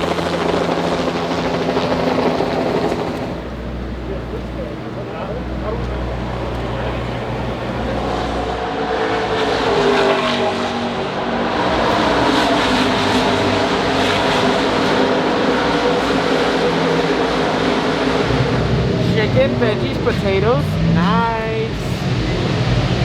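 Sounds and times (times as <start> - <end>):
dense wash of noise: 0.0 - 23.0
race car engines at speed: 0.0 - 23.0.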